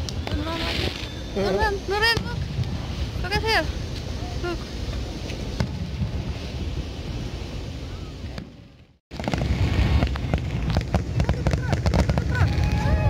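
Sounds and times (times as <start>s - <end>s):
distant fireworks popping: 0.0s - 7.4s, 8.2s - 13.0s
fireworks crackling: 0.0s - 13.0s
wind rumble on microphone: 0.0s - 13.0s.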